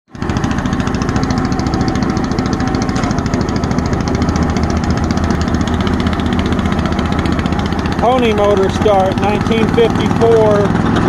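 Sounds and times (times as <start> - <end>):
small gasoline motor running: 0.1 - 11.0.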